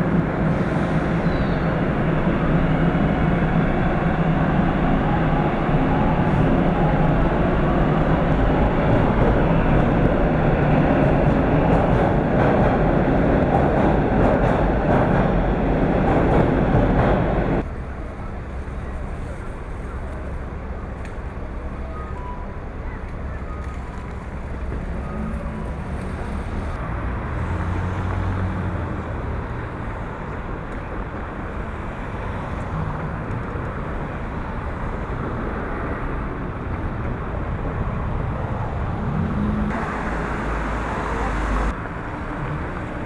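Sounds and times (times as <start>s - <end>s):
low engine rumble: 0.0s - 43.0s.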